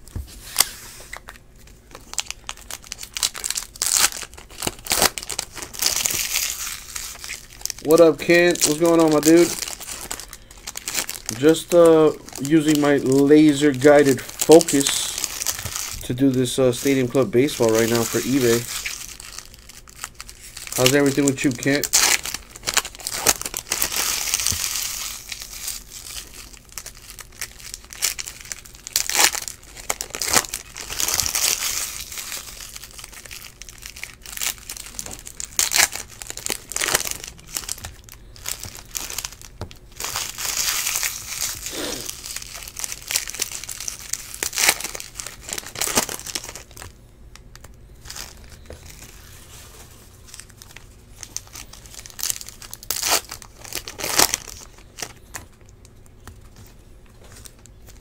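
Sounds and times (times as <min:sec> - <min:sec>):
foil wrapper tearing and crinkling: 0:00.5 - 0:46.9, 0:47.5 - 0:56.6.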